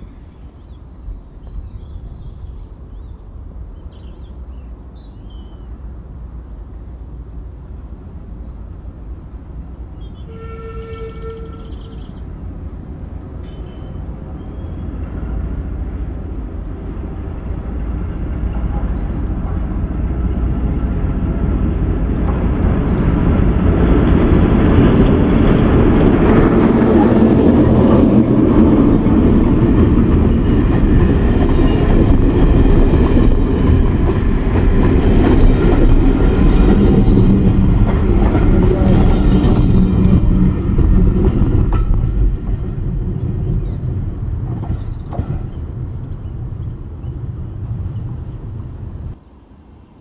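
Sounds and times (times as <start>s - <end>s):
train wheels rumbling on rails: 0.0s - 49.2s.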